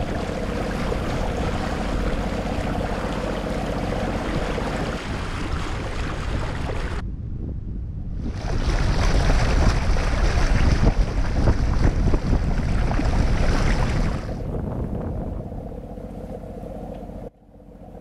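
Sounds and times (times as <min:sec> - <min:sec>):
water rushing along hull: 0:00.0 - 0:07.0, 0:08.1 - 0:18.0
wind buffeting microphone: 0:00.0 - 0:16.5.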